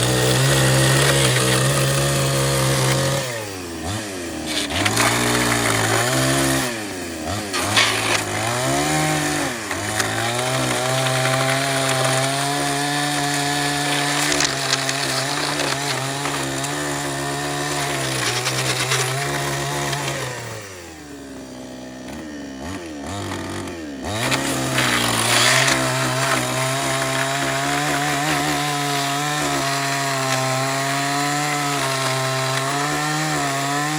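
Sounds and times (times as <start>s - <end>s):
chainsaw revving: 0.0s - 33.9s.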